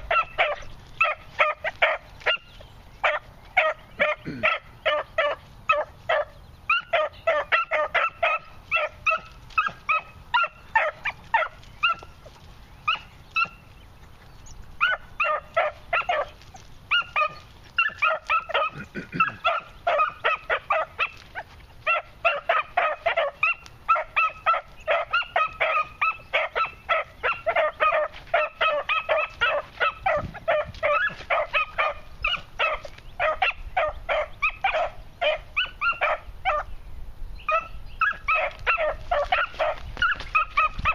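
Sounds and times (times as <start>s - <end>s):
puppies barking: 0.0s - 13.8s, 14.5s - 36.7s, 37.4s - 40.9s.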